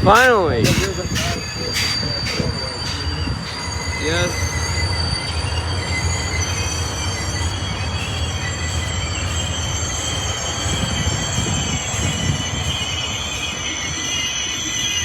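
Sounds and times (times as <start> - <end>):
rumble of train cars: 0.0 - 15.0
train wheels squealing: 0.0 - 15.0.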